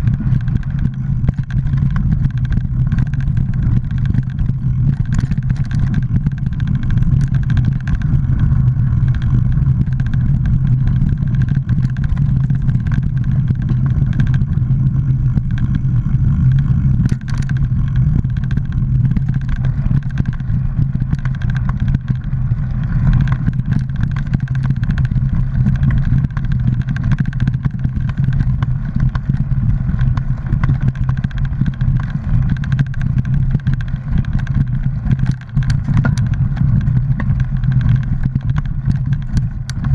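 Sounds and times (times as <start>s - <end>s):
bike clicks and rattles: 0.0s - 39.9s
tyres rumbling on dirt: 0.0s - 39.9s.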